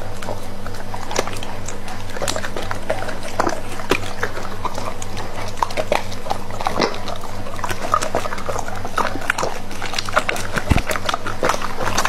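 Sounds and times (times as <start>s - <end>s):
dog chewing meat: 0.0s - 12.0s
steady low hum: 0.0s - 12.0s.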